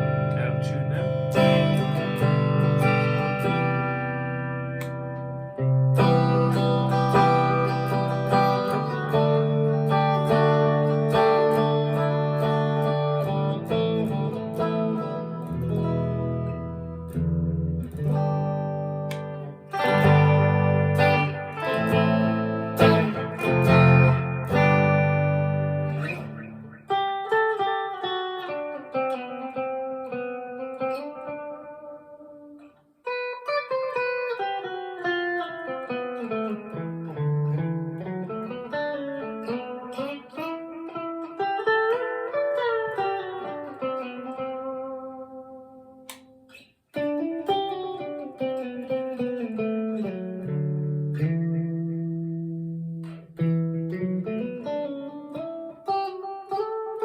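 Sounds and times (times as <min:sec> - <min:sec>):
clean electric guitar playing: 0:00.0 - 0:57.0.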